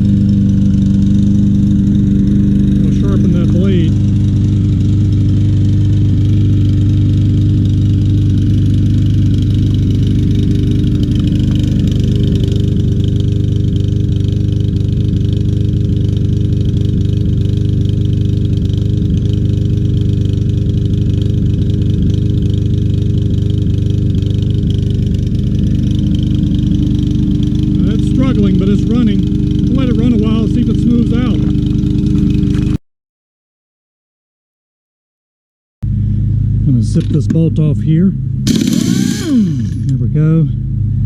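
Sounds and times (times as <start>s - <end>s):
lawn mower engine running: 0.0s - 32.8s, 35.8s - 41.0s.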